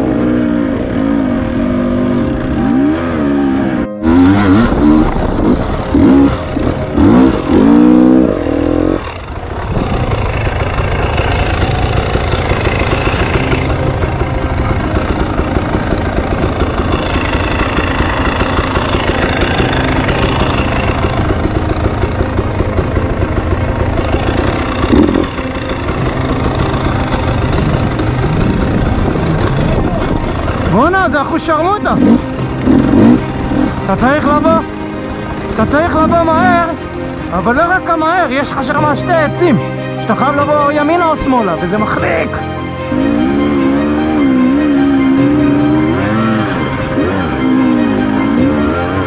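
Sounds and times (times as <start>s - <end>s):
off-road motorcycle engine revving: 0.0s - 49.0s.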